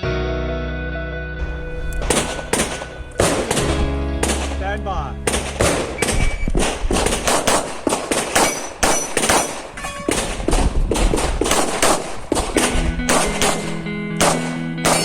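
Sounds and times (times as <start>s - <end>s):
rapid pistol shots: 2.0s - 15.0s.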